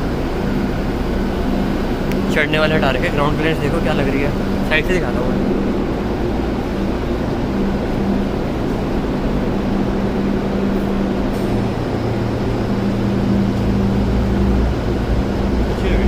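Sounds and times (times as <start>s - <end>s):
car engine idling: 0.0s - 16.0s
lower hum: 0.0s - 16.0s.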